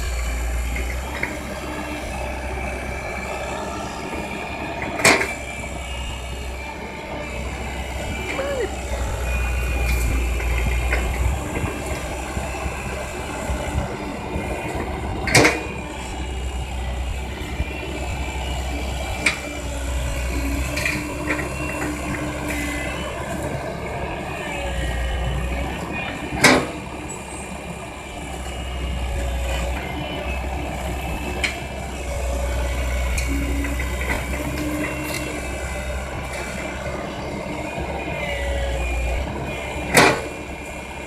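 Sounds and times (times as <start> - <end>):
excavator diesel engine rumbling: 0.0 - 41.0.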